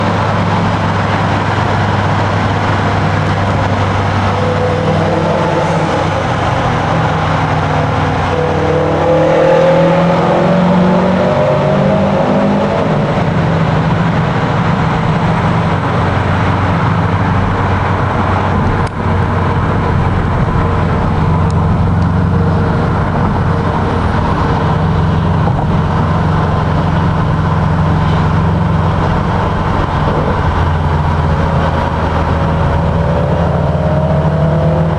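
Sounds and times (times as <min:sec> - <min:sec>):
car engine revving in a tunnel: 0:00.0 - 0:34.9.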